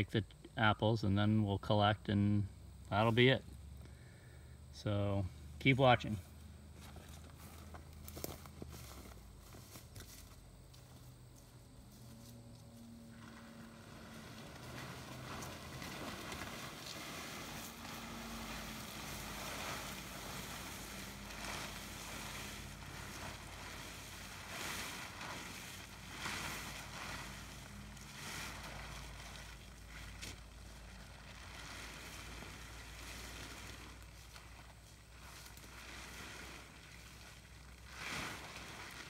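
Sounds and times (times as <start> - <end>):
plastic tarp rustling and crinkling: 6.7 - 39.0.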